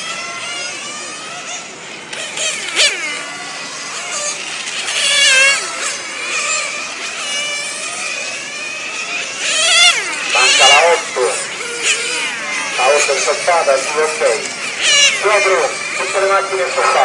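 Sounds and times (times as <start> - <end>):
rc car engines whining: 0.0 - 17.0.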